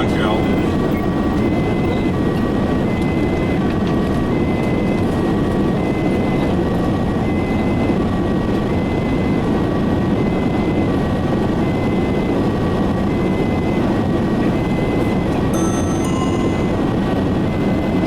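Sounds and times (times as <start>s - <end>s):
vehicle engine and road noise: 0.0s - 18.0s
two-tone ambulance siren: 0.2s - 18.0s.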